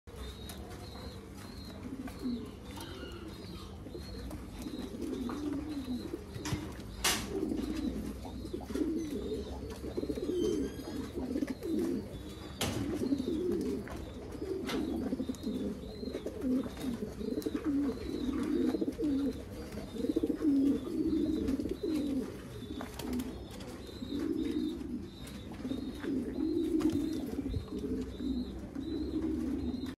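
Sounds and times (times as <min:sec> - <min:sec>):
pigeons cooing: 0:00.1 - 0:30.0.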